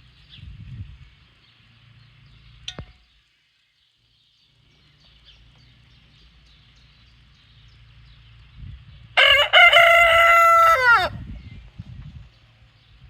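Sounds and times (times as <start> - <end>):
small birds chirping: 0.0 - 10.4, 11.2 - 13.0.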